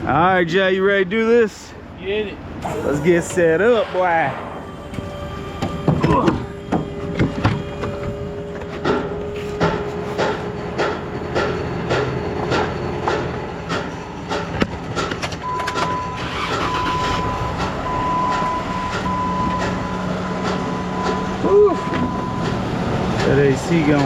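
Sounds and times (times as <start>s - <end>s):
truck running from inside cab: 1.8s - 24.0s.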